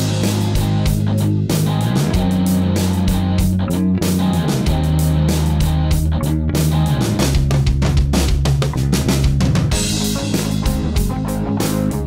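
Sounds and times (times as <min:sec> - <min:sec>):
background music with guitar: 0:00.0 - 0:12.0.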